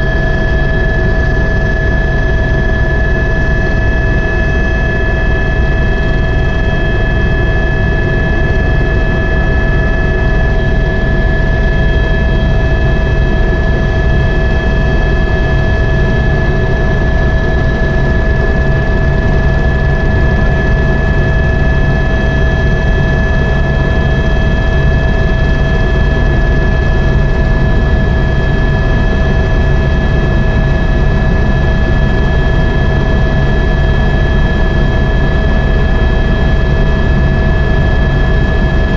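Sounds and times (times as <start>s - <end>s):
helicopter rotor rumble: 0.0s - 38.9s.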